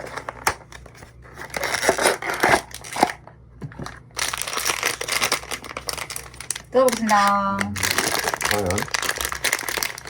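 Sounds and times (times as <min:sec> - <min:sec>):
packaging torn and crinkled: 0:00.0 - 0:03.2, 0:04.1 - 0:10.0.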